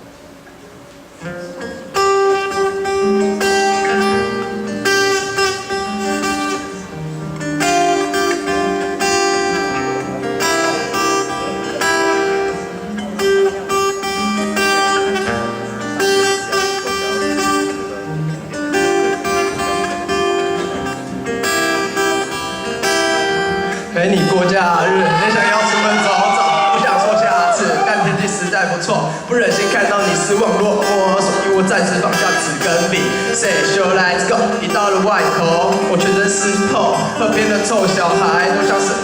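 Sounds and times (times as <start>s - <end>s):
strummed guitar music: 0.0s - 39.0s.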